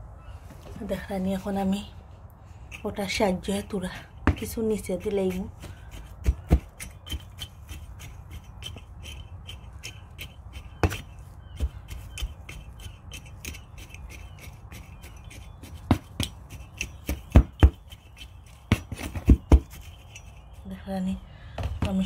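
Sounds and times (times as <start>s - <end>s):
tool patting compost: 2.6s - 20.7s.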